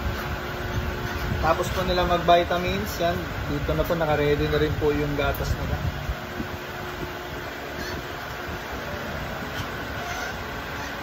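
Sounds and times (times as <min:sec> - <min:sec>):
steady rumbling machine noise: 0:00.0 - 0:11.0.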